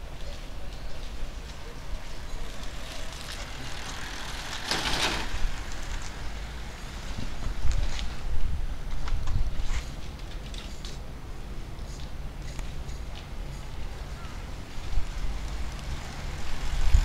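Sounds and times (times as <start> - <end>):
street background rumble: 0.0 - 17.0.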